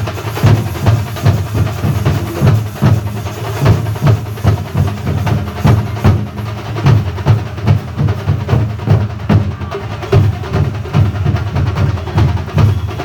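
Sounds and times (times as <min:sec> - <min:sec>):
drum band playing: 0:00.0 - 0:13.0.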